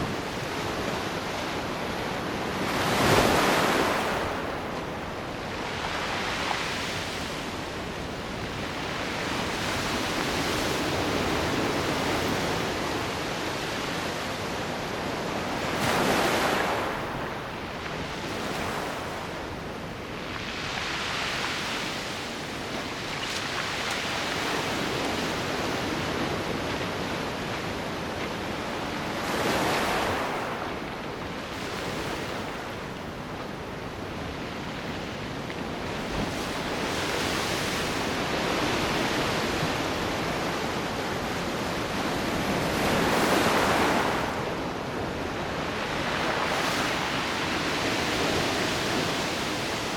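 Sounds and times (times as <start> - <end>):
sea waves washing onto shore: 0.0 - 49.9.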